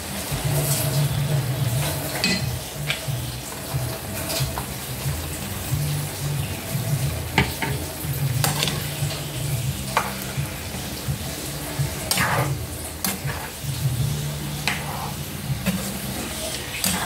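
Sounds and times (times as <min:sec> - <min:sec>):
food sizzling in a frying pan: 0:00.0 - 0:17.0
spatula scraping a pan: 0:00.3 - 0:17.0.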